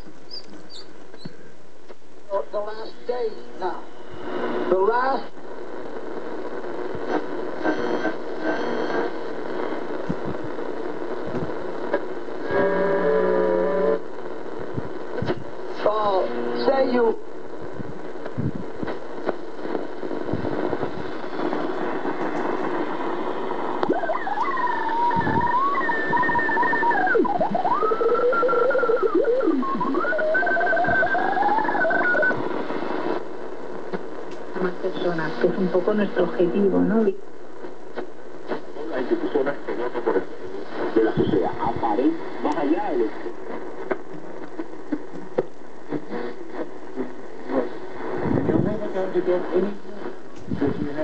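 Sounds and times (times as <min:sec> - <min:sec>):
whistling tones in static: 0:00.0 - 0:01.6, 0:02.3 - 0:36.7, 0:38.4 - 0:48.3
radio static hiss: 0:00.0 - 0:51.0.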